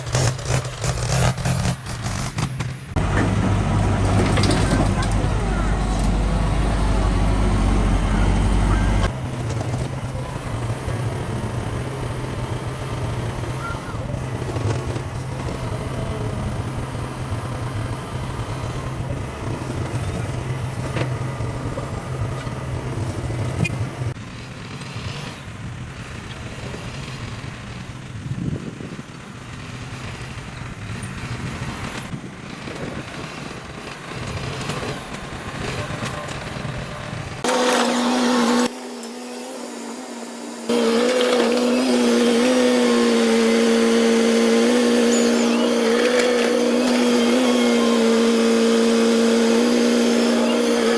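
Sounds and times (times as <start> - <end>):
heavy machinery engine humming: 0.0 - 50.9.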